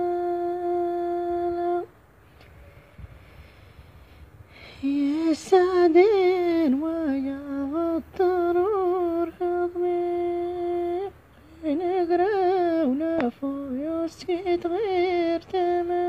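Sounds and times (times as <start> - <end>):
woman singing ornamented melody: 0.0 - 2.0, 4.7 - 16.0.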